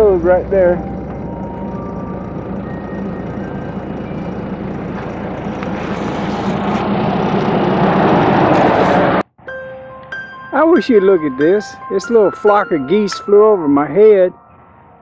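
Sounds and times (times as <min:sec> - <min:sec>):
drilling rig engine humming: 0:00.0 - 0:09.2, 0:10.2 - 0:15.0.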